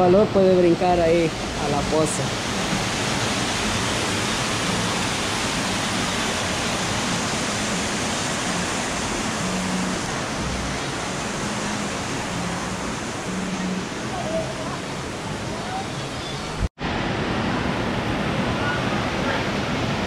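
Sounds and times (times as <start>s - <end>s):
creek water rushing over rocks: 0.0s - 20.0s.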